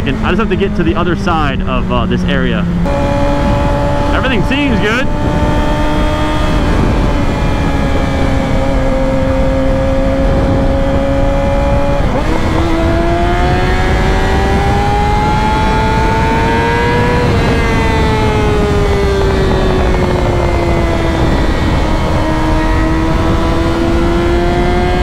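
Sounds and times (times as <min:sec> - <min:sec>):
heavy wind rush: 0:00.0 - 0:25.0
motorcycle engine accelerating: 0:00.0 - 0:25.0.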